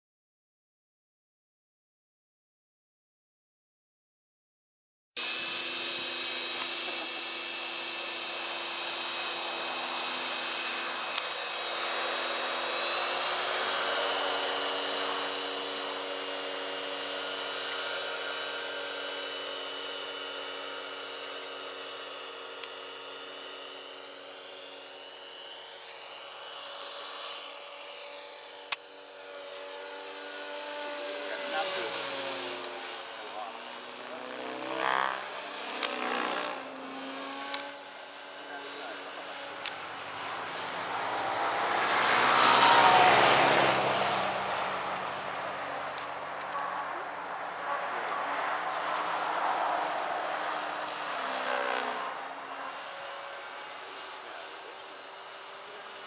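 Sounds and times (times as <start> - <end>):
model helicopter whine and rotor hum: 5.2 - 56.0.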